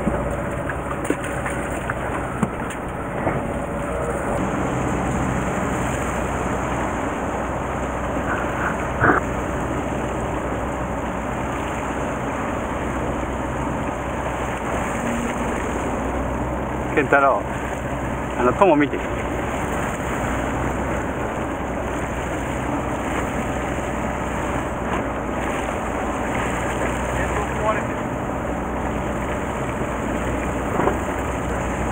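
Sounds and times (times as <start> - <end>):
boat engine humming: 0.0 - 31.9
sea water noise: 0.0 - 31.9
wind: 0.0 - 31.9.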